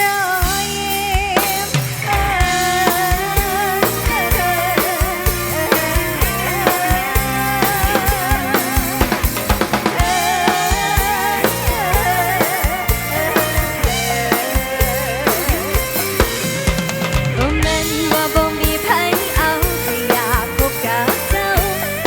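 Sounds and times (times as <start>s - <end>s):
drum kit beat: 0.0s - 22.0s
live band playing: 0.0s - 22.0s
wavering lead melody: 2.4s - 22.0s.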